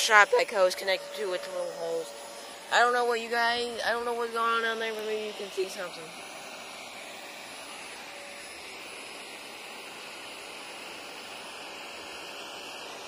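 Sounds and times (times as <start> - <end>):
shop vac running: 0.0 - 13.0.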